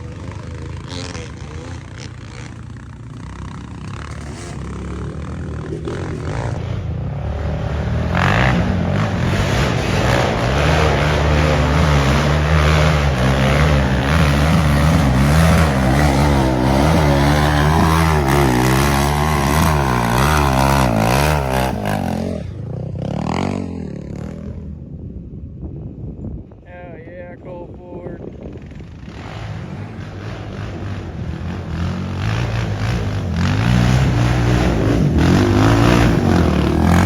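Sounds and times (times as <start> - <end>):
atv engine revving: 0.0 - 24.8, 27.8 - 37.0.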